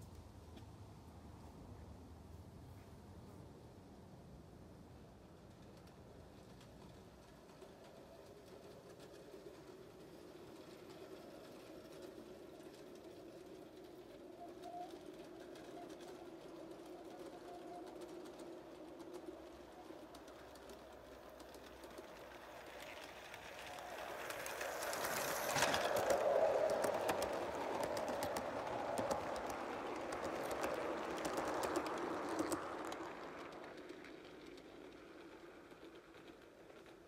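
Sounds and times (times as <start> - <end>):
model train wheels on track: 0.0 - 37.0.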